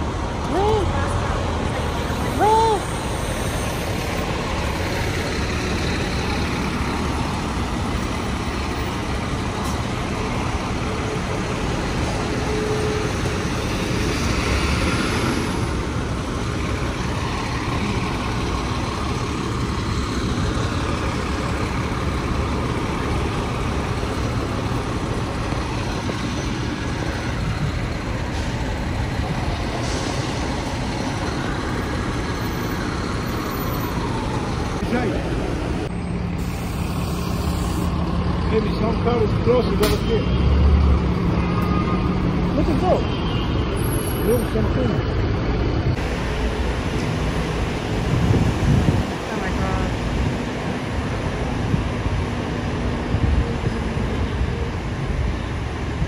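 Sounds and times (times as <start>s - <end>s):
buses and trucks passing: 0.0s - 56.0s.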